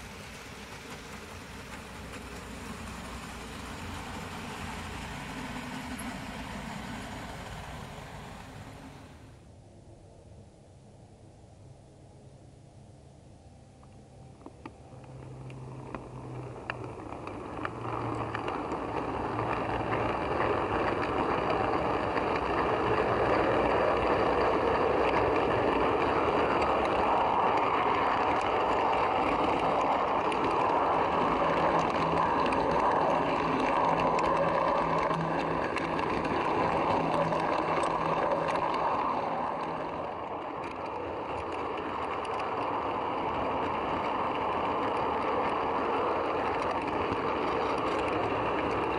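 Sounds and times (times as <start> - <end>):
model train wheels rolling on rail: 0.0 - 9.4, 13.8 - 48.9.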